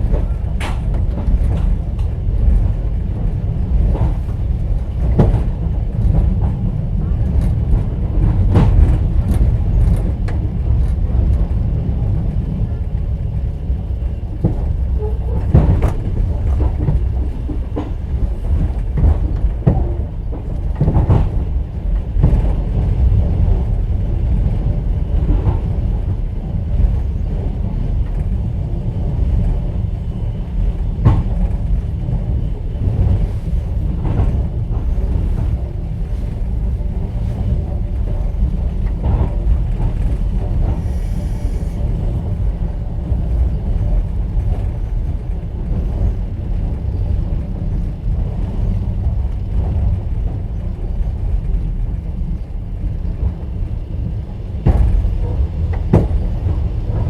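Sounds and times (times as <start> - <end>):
train running gear rumble: 0.0 - 57.0
train wheels knocking: 0.0 - 57.0.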